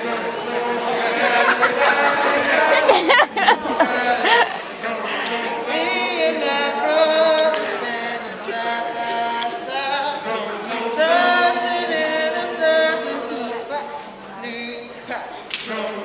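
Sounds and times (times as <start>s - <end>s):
voices singing a cappella: 0.0s - 16.0s.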